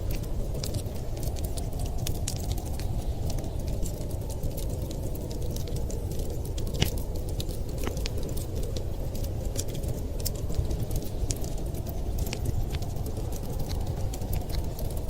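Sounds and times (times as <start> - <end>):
storm wind rumbling: 0.0 - 15.0
wood fire crackling: 0.0 - 15.0.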